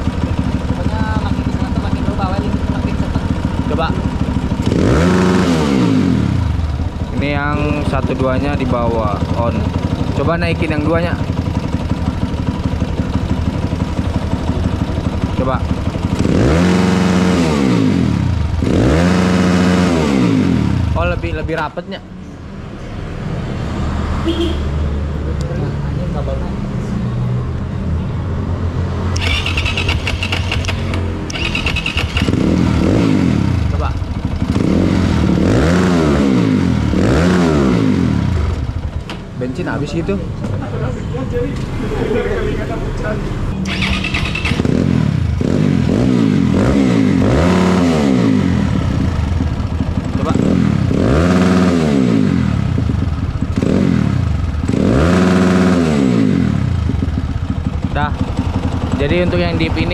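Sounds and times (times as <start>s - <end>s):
motorcycle engine revving: 0.0s - 21.9s, 28.4s - 59.9s.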